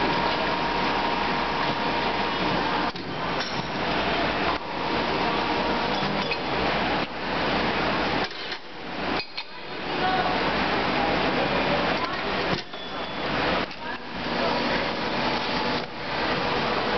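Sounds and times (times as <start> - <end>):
machine running mechanical noise: 0.0 - 16.9.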